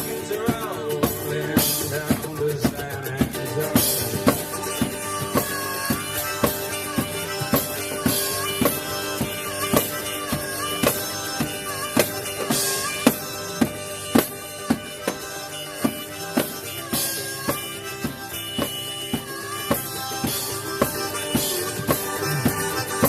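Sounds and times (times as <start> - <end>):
acoustic guitar: 0.0 - 23.0
drum beat: 0.0 - 23.0
harmonica solo: 0.0 - 23.0.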